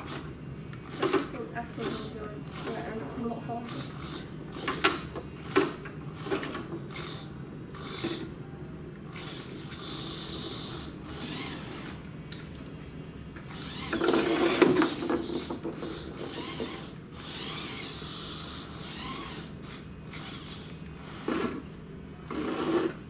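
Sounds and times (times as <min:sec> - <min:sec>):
small electric motors whirring: 0:00.0 - 0:08.3, 0:09.1 - 0:12.1, 0:13.4 - 0:23.0.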